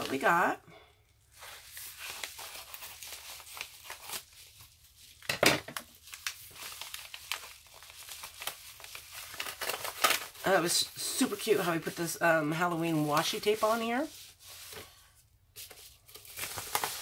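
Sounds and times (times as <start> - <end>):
envelope crinkling and rustling: 1.3 - 15.0, 15.6 - 17.0.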